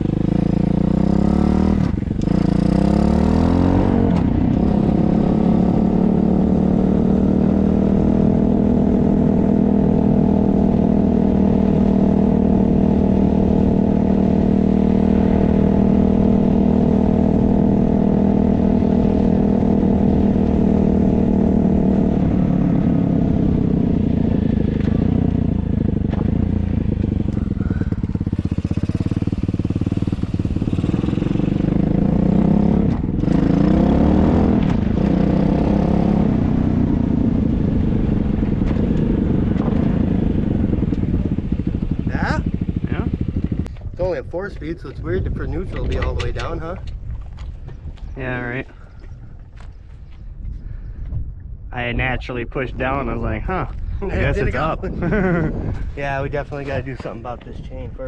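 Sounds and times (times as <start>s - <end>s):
dirt bike engine running: 0.0s - 50.2s.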